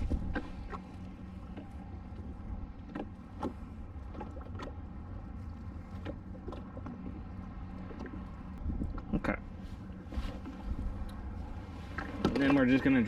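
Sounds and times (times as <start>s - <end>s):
low wind rumble: 0.0s - 13.0s
water lapping against hull: 0.0s - 13.0s.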